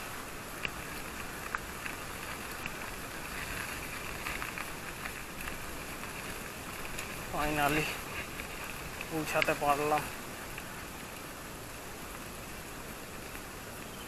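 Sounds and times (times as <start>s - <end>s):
bicycle riding on dirt road: 0.0s - 14.0s.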